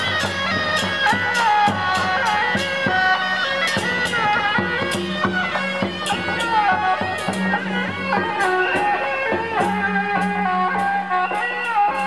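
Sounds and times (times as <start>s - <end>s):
sharp percussion strikes: 0.0s - 12.0s
shrill reed pipe melody: 0.0s - 12.0s.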